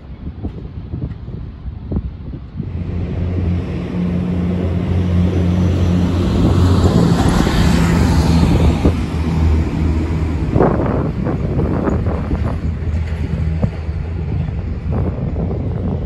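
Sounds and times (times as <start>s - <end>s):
truck driving past: 2.6s - 16.0s.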